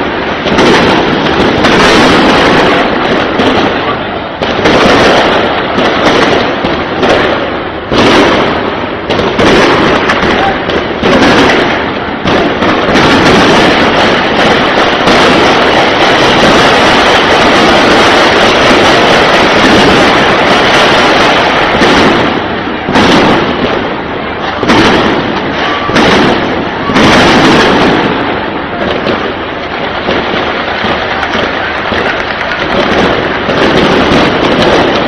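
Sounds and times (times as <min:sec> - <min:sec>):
heavy gunfire: 0:00.0 - 0:35.0.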